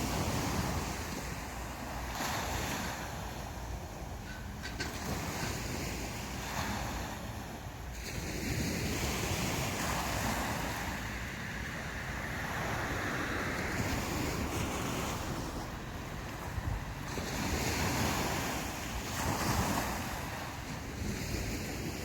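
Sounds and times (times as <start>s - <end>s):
sea waves breaking on beach: 0.0s - 22.0s
wind buffeting microphone: 0.0s - 22.0s.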